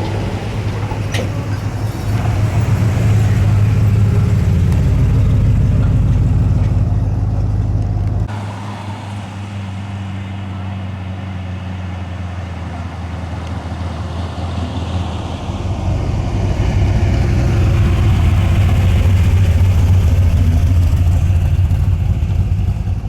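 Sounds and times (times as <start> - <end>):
car engine exhaust rumble: 0.0 - 23.0.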